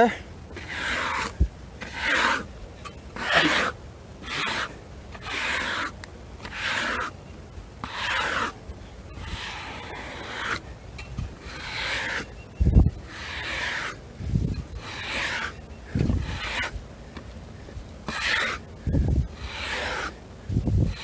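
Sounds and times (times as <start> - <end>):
scraping strokes across wood: 0.0 - 21.0.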